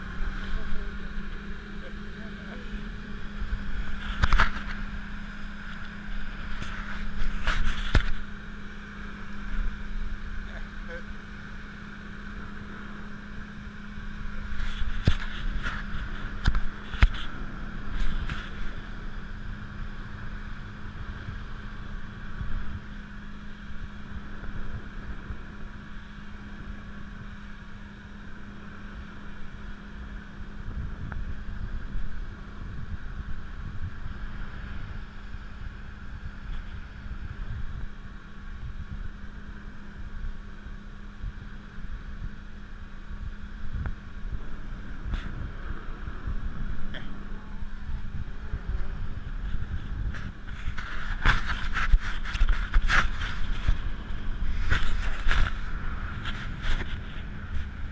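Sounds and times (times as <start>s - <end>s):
motorboat engine running: 0.0s - 57.9s.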